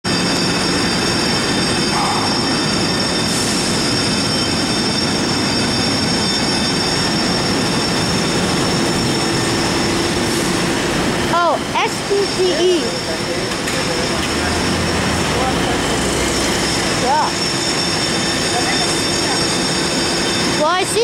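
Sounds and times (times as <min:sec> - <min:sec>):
trolley wheels squealing on rails: 0:00.1 - 0:21.0.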